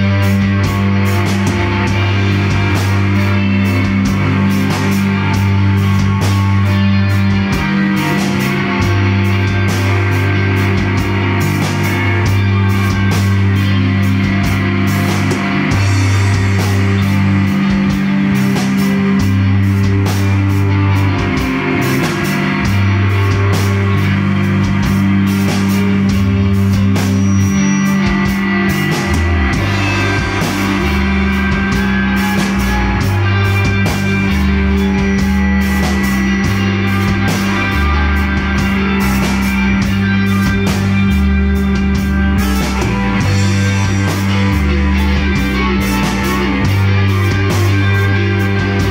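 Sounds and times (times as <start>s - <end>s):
drum kit: 0.0s - 48.9s
electric guitars: 0.0s - 48.9s
rock band playing live: 0.0s - 48.9s.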